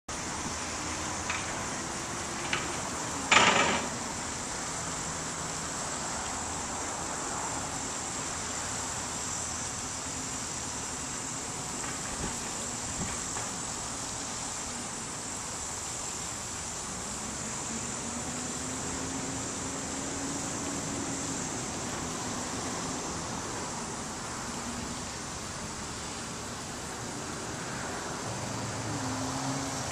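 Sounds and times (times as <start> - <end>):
outdoor background noise: 0.1 - 29.9.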